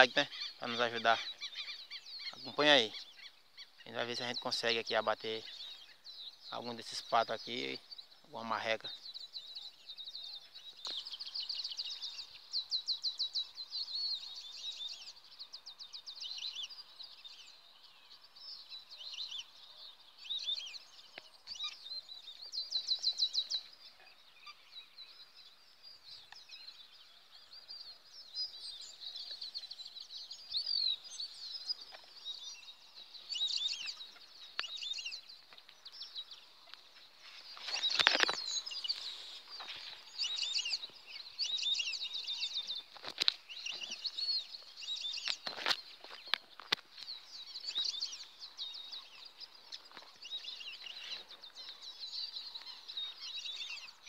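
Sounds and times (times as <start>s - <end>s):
loud full bird call: 0.0s - 54.0s
songbirds trilling and chirping: 0.0s - 54.0s.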